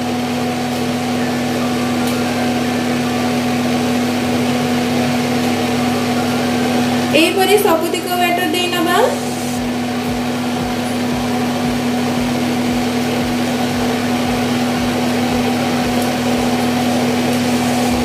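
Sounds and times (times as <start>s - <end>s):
cooling fan whirring hum: 0.0s - 18.0s.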